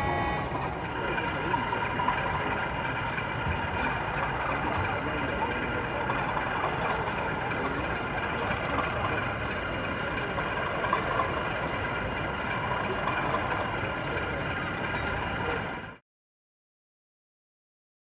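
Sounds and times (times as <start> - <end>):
model locomotive drone: 0.0 - 16.0
murmur of voices: 0.0 - 16.0.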